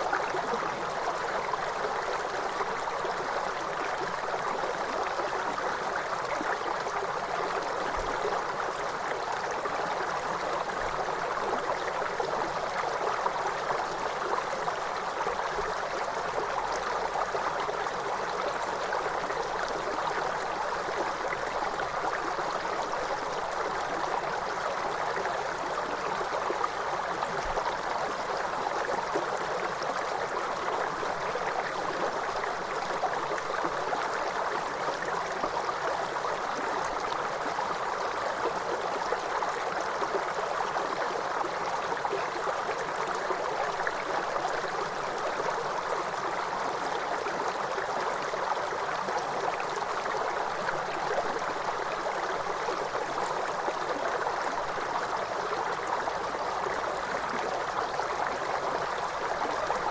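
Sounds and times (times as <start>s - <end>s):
waterfall: 0.0s - 59.9s.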